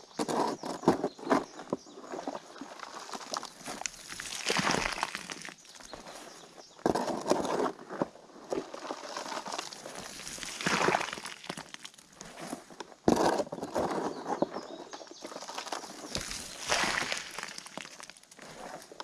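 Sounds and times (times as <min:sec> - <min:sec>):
concrete scraping: 0:00.1 - 0:19.0.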